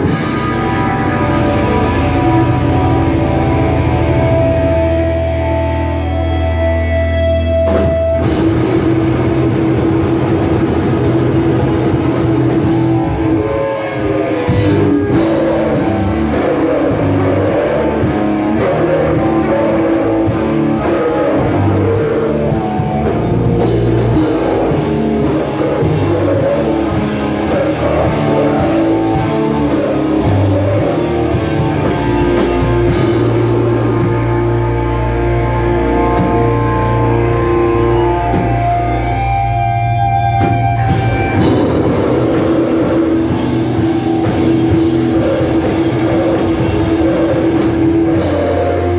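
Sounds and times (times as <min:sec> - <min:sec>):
pounding drum kit: 0:00.0 - 0:06.1, 0:07.6 - 0:48.9
electric guitars: 0:00.0 - 0:48.9.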